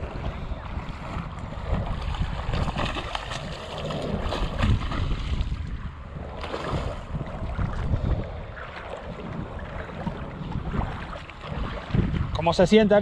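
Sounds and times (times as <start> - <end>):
fish thrashing in water: 0.0 - 12.3
water lapping: 0.0 - 13.0
wind on microphone: 0.0 - 13.0.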